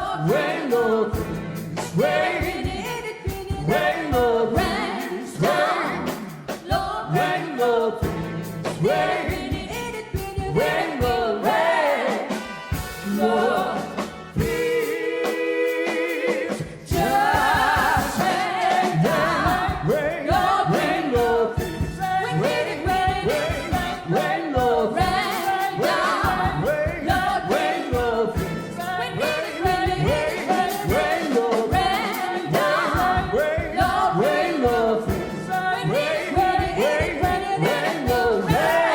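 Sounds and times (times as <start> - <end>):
gospel group singing: 0.0 - 38.9
instrumental backing: 0.0 - 38.9.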